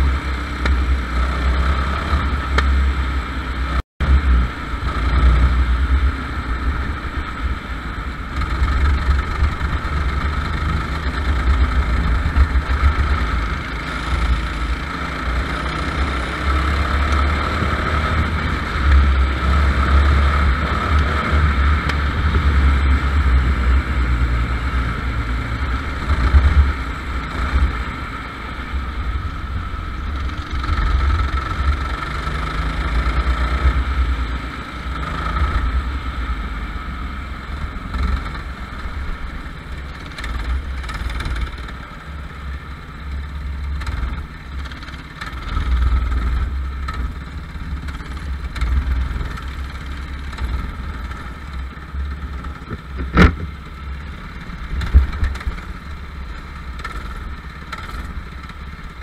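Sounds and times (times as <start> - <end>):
go-kart engine racing: 0.0 - 59.0.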